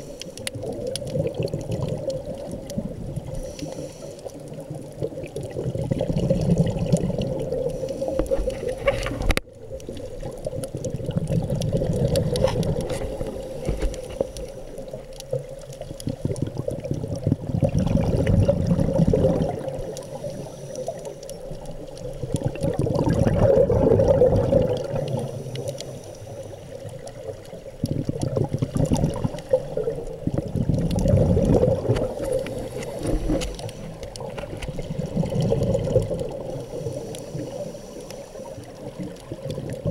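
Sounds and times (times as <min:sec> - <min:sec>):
exhaled air bubbles underwater: 0:00.0 - 0:39.9.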